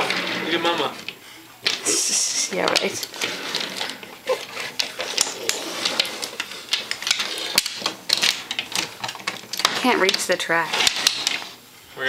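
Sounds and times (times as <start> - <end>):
toy train pieces clacking: 1.7 - 11.6.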